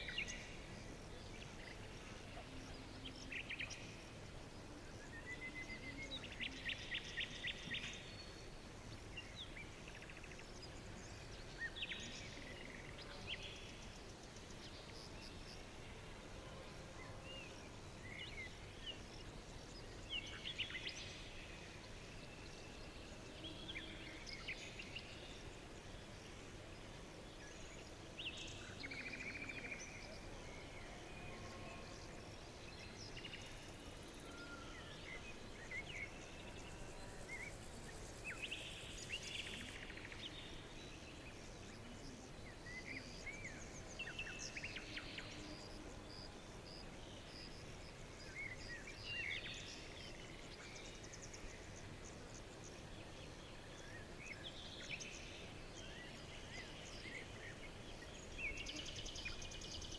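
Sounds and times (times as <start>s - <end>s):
soft background hiss: 0.0s - 59.9s.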